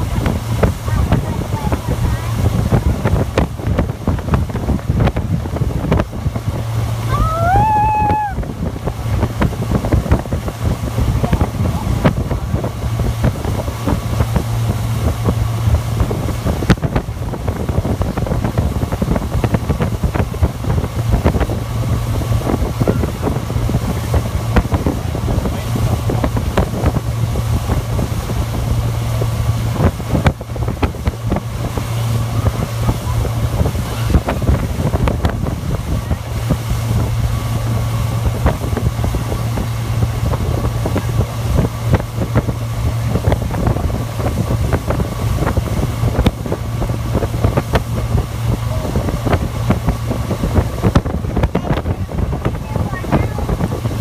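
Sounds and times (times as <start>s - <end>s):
motorboat engine droning: 0.0s - 54.0s
wind buffeting microphone: 0.0s - 54.0s.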